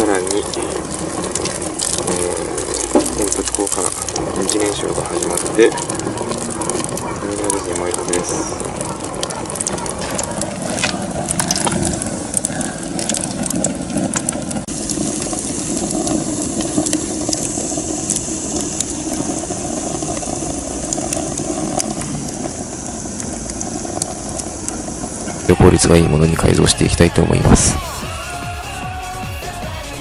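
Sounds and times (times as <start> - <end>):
stove draft rushing: 0.0 - 30.0
wood fire crackling and popping: 0.0 - 30.0.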